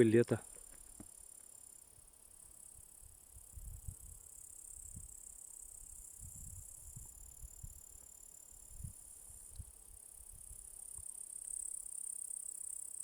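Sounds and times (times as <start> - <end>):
grasshoppers chirring: 0.0 - 13.0.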